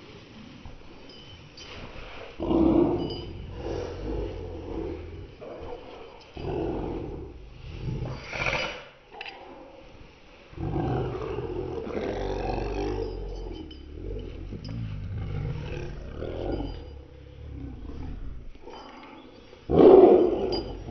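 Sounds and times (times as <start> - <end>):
dogs growling and scuffling: 0.5 - 20.9.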